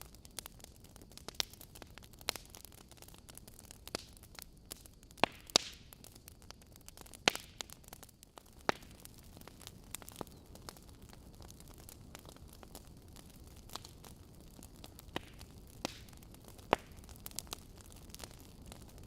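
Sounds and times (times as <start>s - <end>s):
logs popping and crackling: 0.0s - 19.0s
wood fire hissing: 0.0s - 19.0s.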